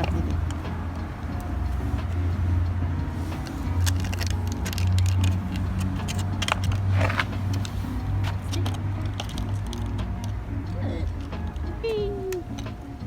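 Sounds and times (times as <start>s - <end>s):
skateboard wheels rolling on pavement: 0.0s - 13.0s.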